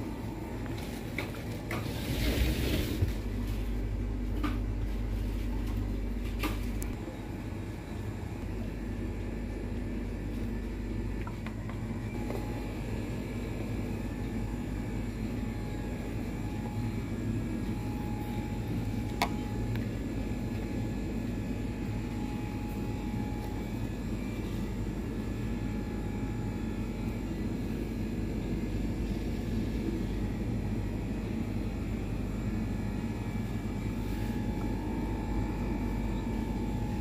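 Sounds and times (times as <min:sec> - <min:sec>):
refrigerated display cases humming: 0:00.0 - 0:37.0.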